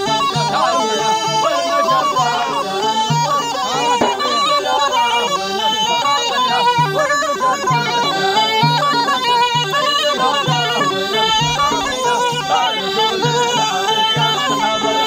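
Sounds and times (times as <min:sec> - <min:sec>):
drum beats: 0:00.0 - 0:15.0
reed pipe folk melody: 0:00.0 - 0:15.0.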